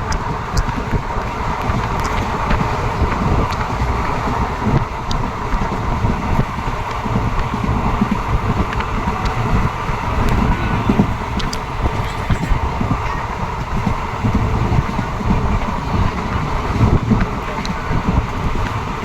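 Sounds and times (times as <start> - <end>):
faint clicks: 0.0 - 19.0
moving train rumble: 0.0 - 19.0.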